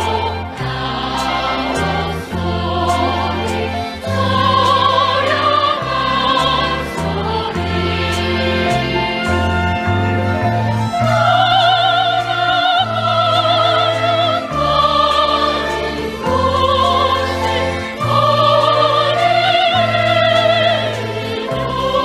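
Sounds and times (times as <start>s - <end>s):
bass accompaniment: 0.0s - 22.0s.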